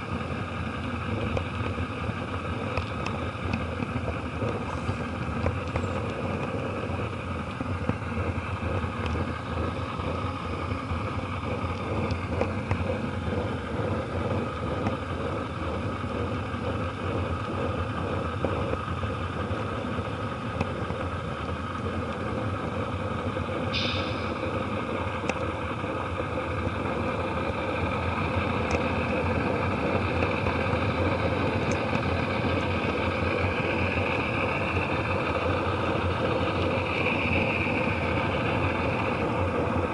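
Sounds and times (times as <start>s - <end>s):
model train wheels rumbling: 0.0s - 39.9s
train car rattle: 0.0s - 39.9s.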